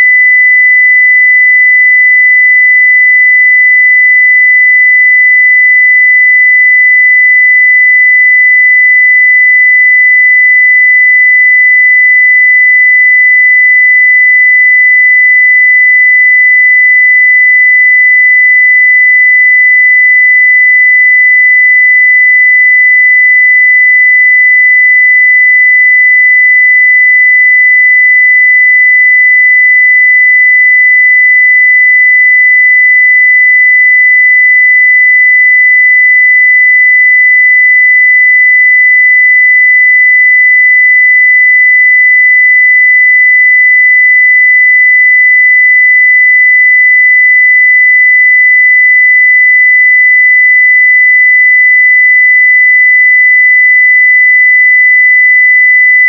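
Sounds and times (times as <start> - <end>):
sine wave test tone: 0.0 - 56.0.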